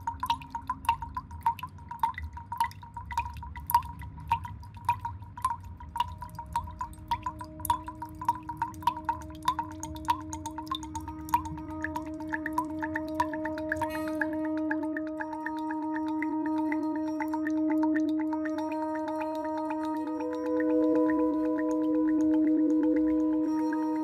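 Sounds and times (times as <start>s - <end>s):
dripping plinks: 0.0s - 24.0s.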